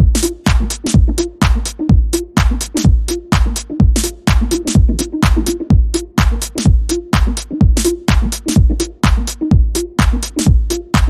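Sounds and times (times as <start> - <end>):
drum machine kick drum: 0.0 - 11.0
electronic dance music: 0.0 - 11.0
hi-hat and snare hits: 0.0 - 11.0.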